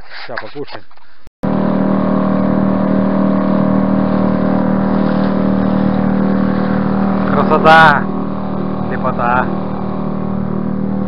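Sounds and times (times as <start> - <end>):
outboard motor running: 1.4 - 11.0.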